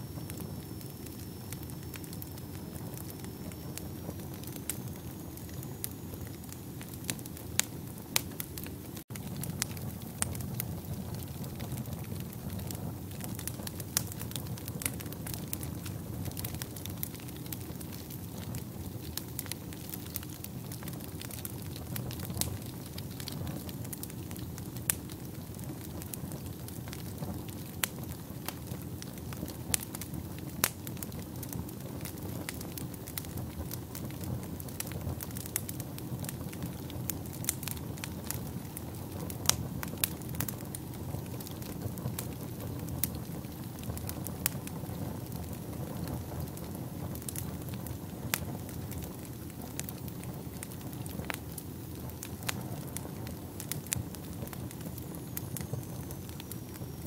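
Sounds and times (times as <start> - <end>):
fire crackling and popping: 0.0 - 57.0
fire rumbling in fireplace: 0.0 - 57.0.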